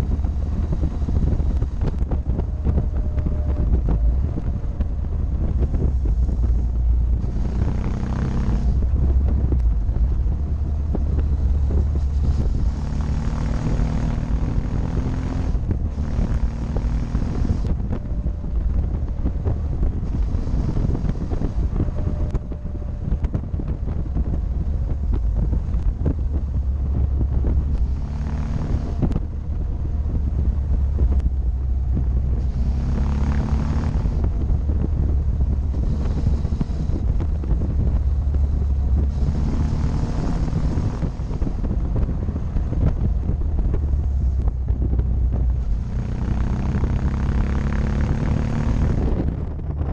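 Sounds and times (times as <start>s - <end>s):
motorcycle engine running: 0.0s - 49.9s
wind rumble on microphone: 0.0s - 49.9s.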